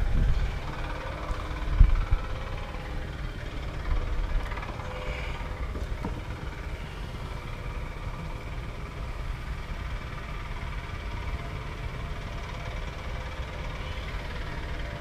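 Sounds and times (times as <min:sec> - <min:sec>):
honeybees humming: 0:00.0 - 0:15.0
steady low rumble: 0:00.0 - 0:15.0.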